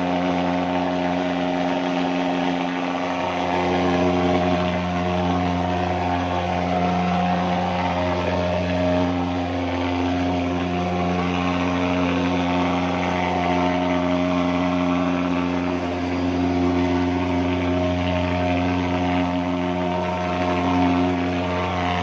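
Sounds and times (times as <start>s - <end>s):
fogging machine droning: 0.0s - 22.0s.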